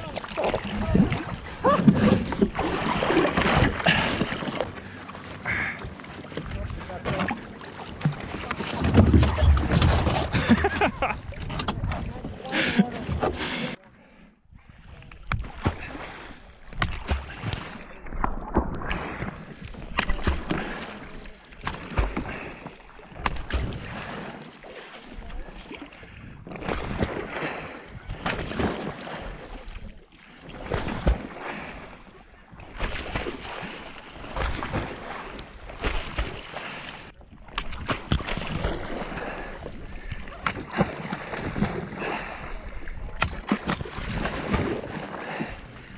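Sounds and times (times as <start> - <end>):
paddle splashing water: 0.0 - 45.9
water rushing along hull: 0.0 - 45.9.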